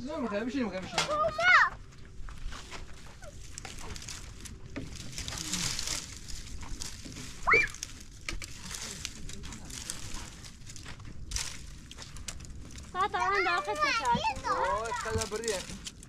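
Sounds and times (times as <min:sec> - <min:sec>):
branches and leaves rustling: 0:00.0 - 0:16.0.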